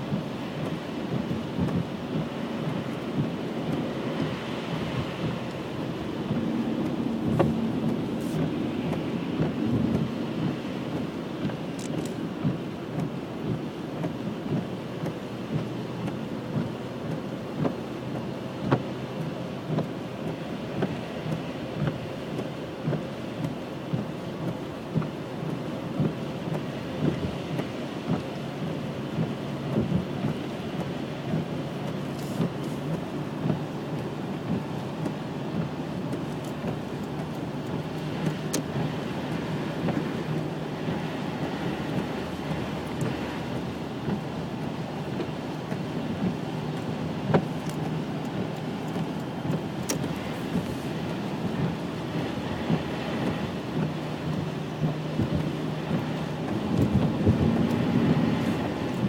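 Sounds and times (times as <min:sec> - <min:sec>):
wind and falling snow rushing: 0:00.0 - 0:59.0.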